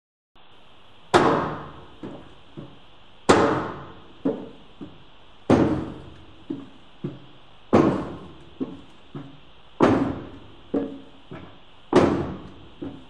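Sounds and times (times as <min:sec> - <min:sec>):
foot kicking metal panel: 0:01.1 - 0:13.0
light knocks: 0:02.0 - 0:13.0.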